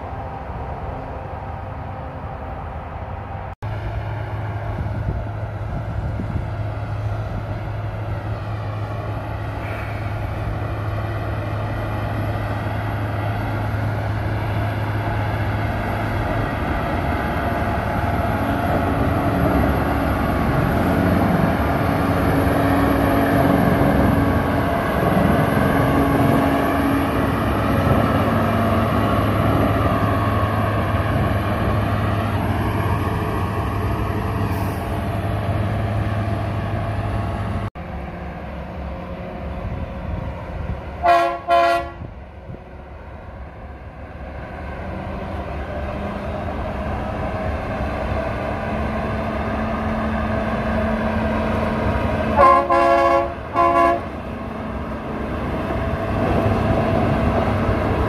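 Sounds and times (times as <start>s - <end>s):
diesel locomotive engine under load: 0.0s - 58.0s.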